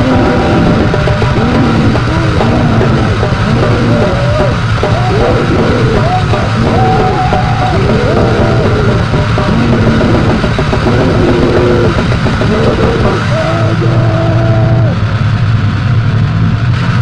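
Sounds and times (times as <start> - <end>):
distorted noise music: 0.0 - 17.0.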